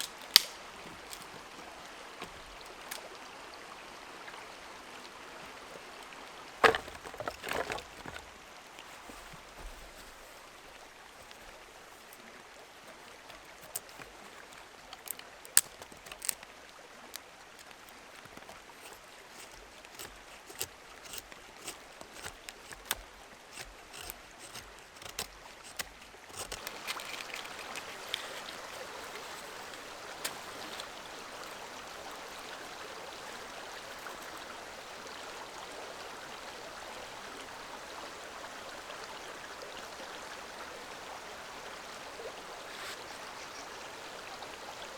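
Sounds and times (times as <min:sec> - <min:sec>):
forest stream rushing: 0:00.0 - 0:44.9.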